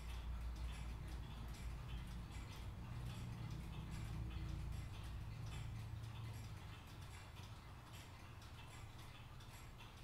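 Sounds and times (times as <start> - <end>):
many clocks ticking: 0.0 - 10.0.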